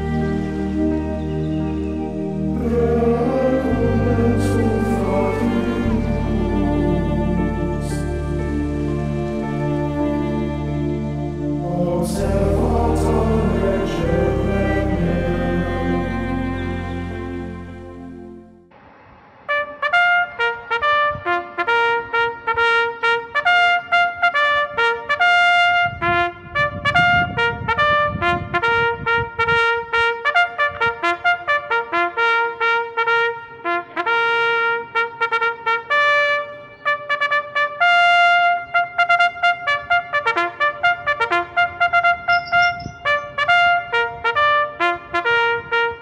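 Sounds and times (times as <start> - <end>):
trumpet melody: 0.0 - 18.7, 19.5 - 46.0.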